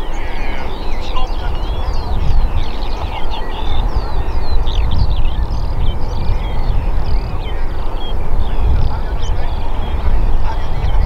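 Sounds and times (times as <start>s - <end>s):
birds chirping and whistling: 0.0s - 11.0s
turboprop plane rumble: 0.0s - 11.0s.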